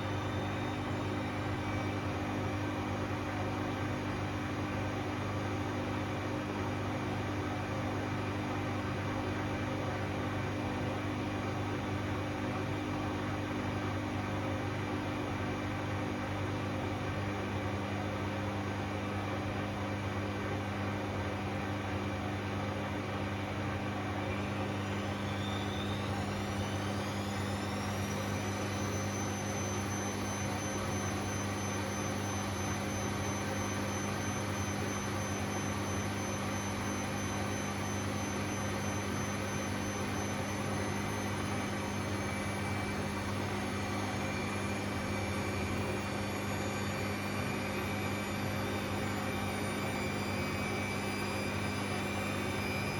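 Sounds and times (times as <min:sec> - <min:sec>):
washing machine drum whine: 0:00.0 - 0:52.9
washing machine spinning hum: 0:00.0 - 0:52.9.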